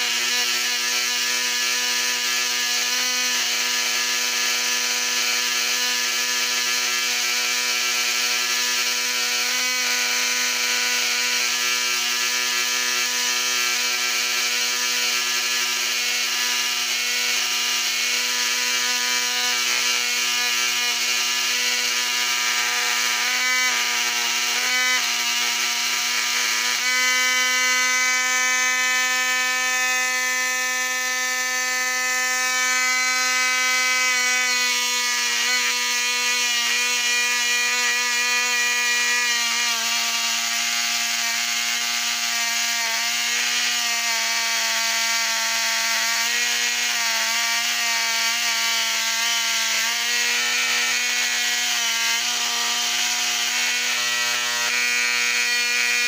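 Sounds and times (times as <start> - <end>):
electric motor whining: 0.0 - 40.4, 48.2 - 56.0.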